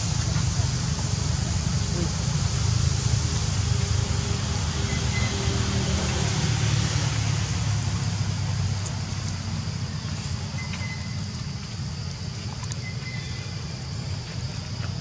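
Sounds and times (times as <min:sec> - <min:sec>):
low rumble with hiss: 0:00.0 - 0:15.0.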